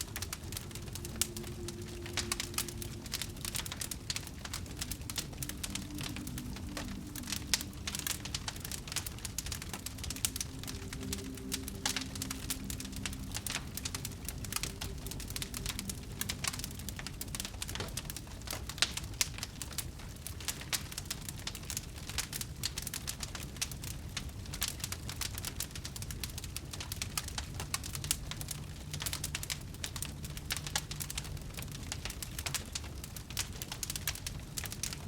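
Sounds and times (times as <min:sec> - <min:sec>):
fire crackling: 0:00.0 - 0:35.0.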